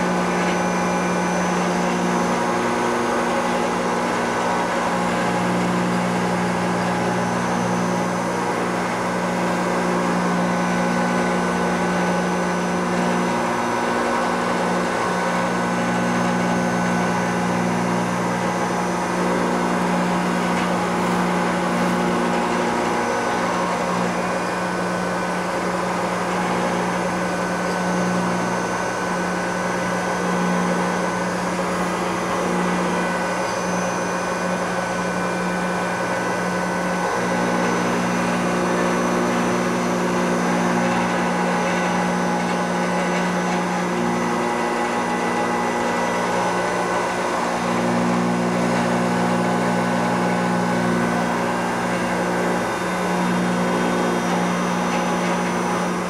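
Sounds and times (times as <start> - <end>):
milling machine cutting metal: 0.0 - 56.0.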